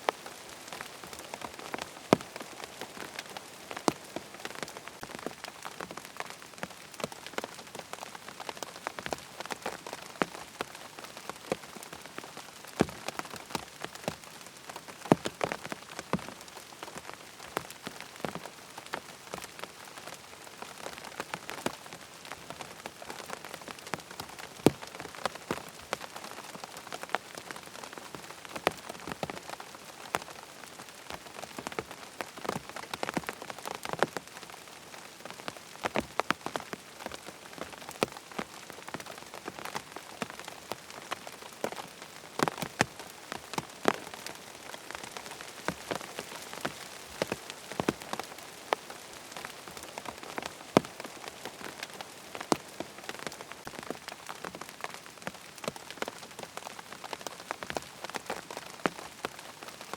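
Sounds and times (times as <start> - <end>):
rain pattering on tent fabric: 0.0 - 59.9.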